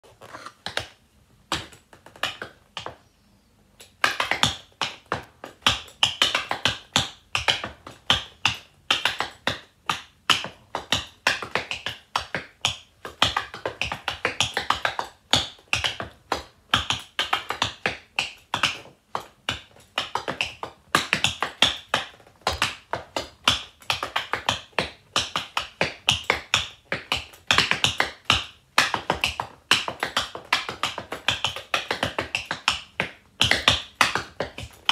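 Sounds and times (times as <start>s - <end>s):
tap shoes on wooden floor: 0.0s - 3.0s, 3.8s - 34.9s.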